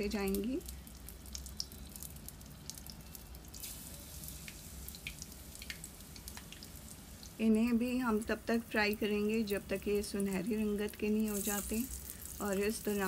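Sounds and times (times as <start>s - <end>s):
deep-frying sizzle with crackling pops: 0.0s - 13.0s.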